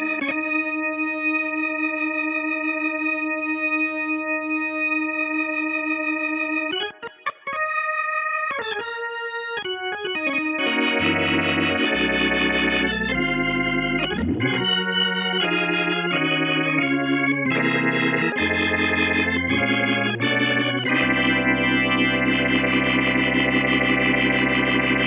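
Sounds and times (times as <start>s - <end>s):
organ chords over bass line: 0.0s - 25.0s.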